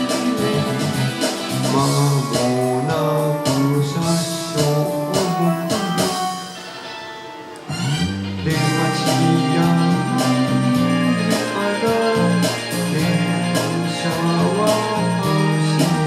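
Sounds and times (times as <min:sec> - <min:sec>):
karaoke backing track: 0:00.0 - 0:16.0.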